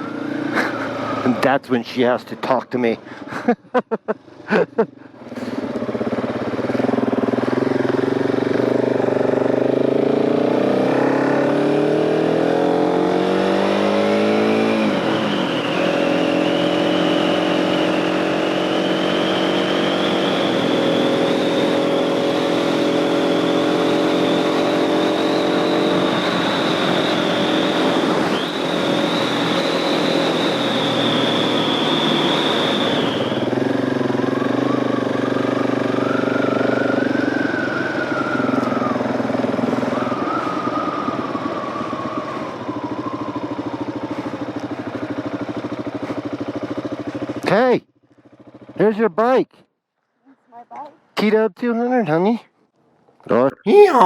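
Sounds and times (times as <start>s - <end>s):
motorcycle engine pulling away: 4.2s - 47.4s.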